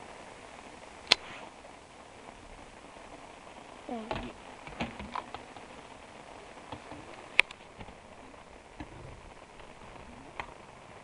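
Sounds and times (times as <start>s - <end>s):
rain falling on a lake: 0.0s - 11.0s.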